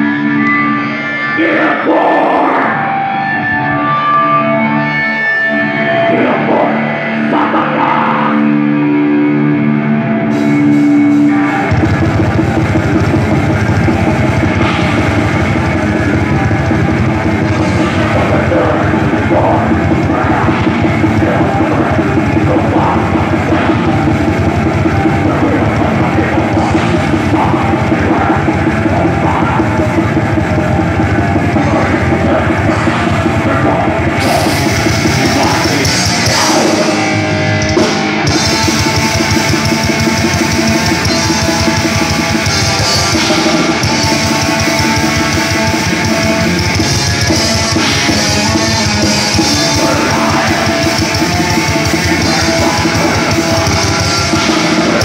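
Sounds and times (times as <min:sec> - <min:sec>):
guitar sustained notes: 0:00.0 - 0:55.0
heavy metal band playing: 0:00.0 - 0:55.0.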